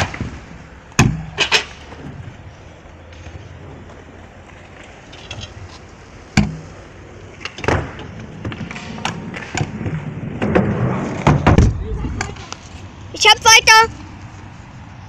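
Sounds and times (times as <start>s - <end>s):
small hard wheels rolling: 0.0s - 13.2s.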